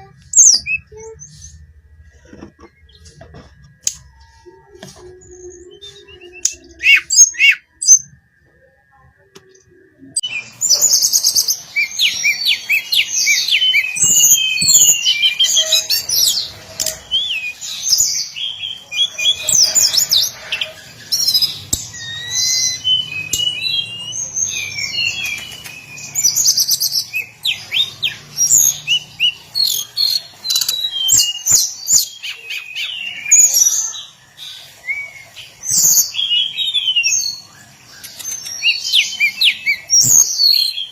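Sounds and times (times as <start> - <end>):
bird singing high twittering notes: 0.0 - 40.9.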